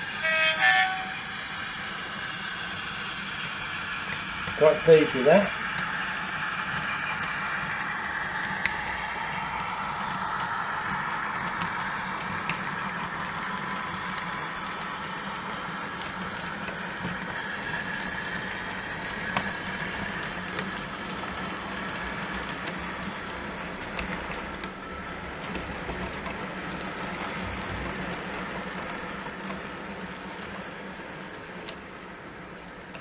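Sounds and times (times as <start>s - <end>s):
model train engine sound from speaker: 0.0s - 33.0s
model train wheels clicking: 0.0s - 33.0s.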